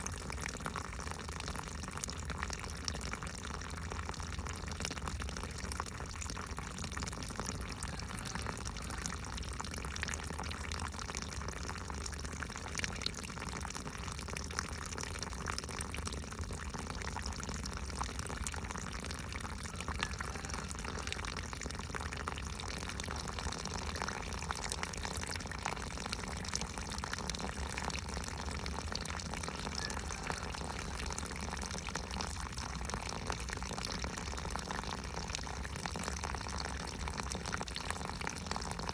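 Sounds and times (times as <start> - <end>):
water drips and splashes: 0.0 - 38.9
water trickling: 0.0 - 38.9.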